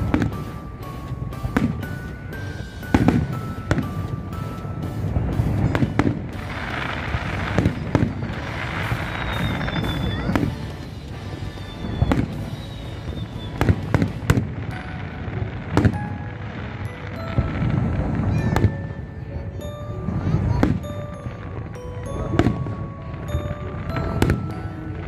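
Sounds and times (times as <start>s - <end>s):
fireworks banging: 0.0s - 25.0s.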